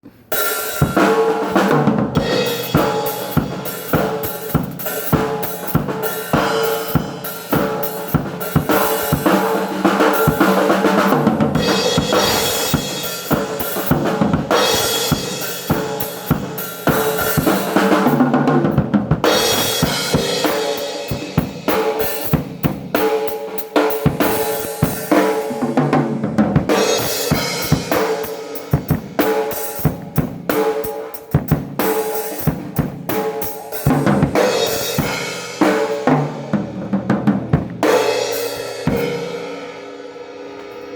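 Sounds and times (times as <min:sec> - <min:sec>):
drum kit playing fast: 0:00.1 - 0:40.9.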